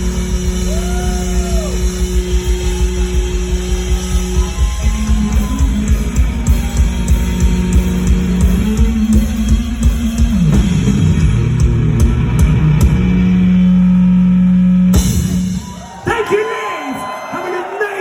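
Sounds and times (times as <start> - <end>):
live rock band playing: 0.0 - 16.1.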